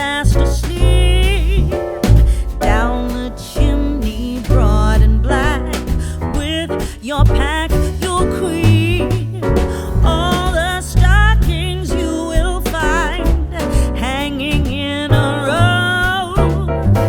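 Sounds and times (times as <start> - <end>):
song with sung vocals and beat: 0.0 - 17.0.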